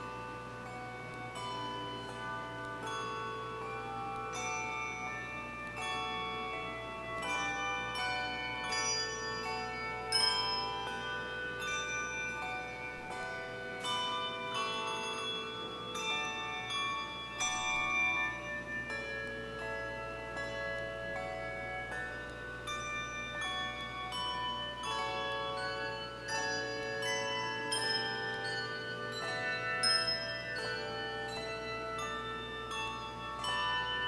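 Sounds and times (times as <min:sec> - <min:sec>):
handbell choir ringing: 0:00.0 - 0:34.0.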